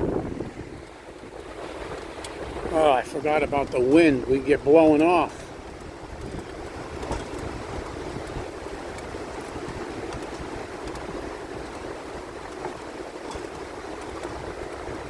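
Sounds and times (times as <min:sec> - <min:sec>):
wind buffeting microphone: 0:00.0 - 0:15.0
steel wheels rolling on rails: 0:00.8 - 0:15.0.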